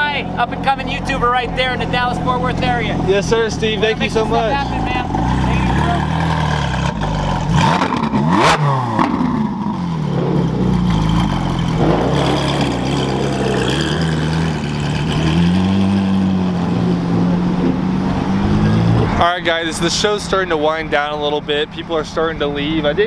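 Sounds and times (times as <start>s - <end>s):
car engine revving and running: 0.0s - 23.0s.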